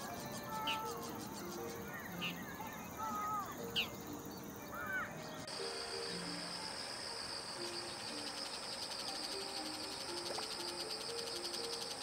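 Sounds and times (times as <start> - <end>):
insects trilling: 0.0 - 12.0
soft background music: 0.0 - 12.0.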